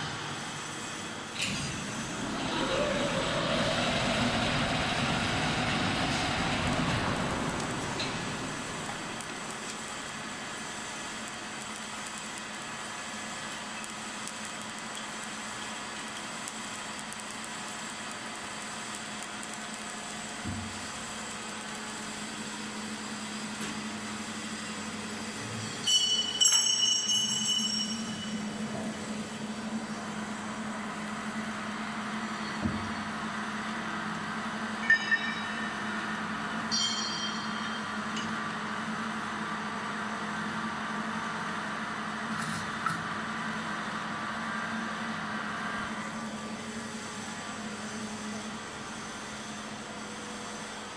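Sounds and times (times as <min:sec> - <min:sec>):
welding machine hum with hiss: 0:00.0 - 0:50.9.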